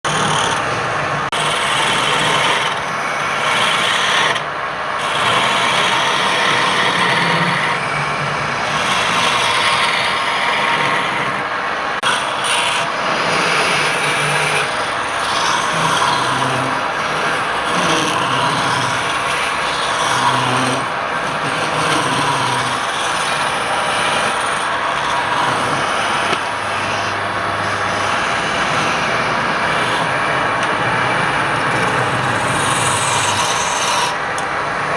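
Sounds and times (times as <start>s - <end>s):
lathe tool rasping wood: 0.0s - 34.9s.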